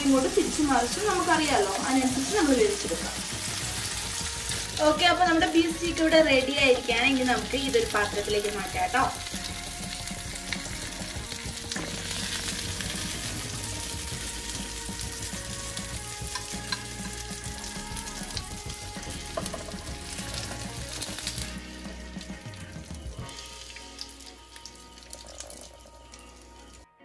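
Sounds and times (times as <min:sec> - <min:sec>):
steaks sizzling in a pan: 0:00.0 - 0:26.9.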